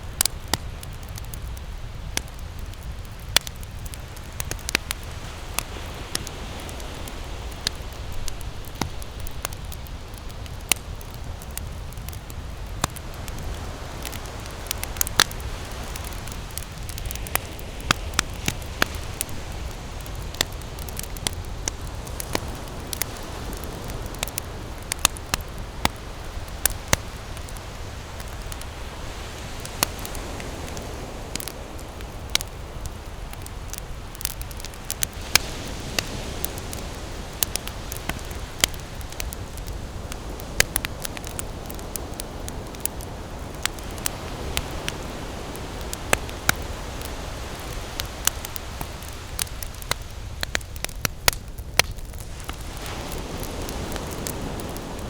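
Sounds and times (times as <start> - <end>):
campfire crackling: 0.0 - 55.0
low fire rumble: 0.0 - 55.0.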